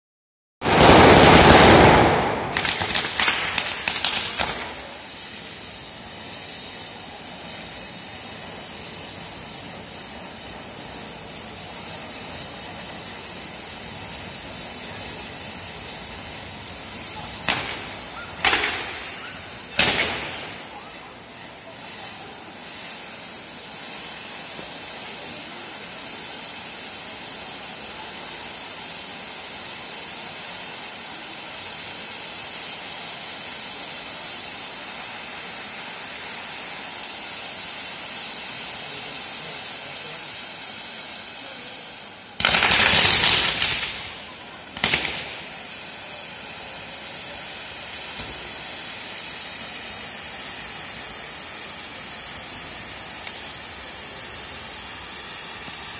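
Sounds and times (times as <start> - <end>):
firework fountains hissing: 0.6 - 55.9
loud firework burst: 0.6 - 55.9.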